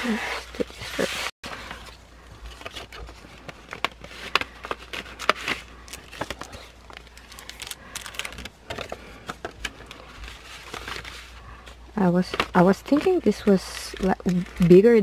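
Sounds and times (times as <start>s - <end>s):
packaging rustling and clicking: 0.5s - 14.8s.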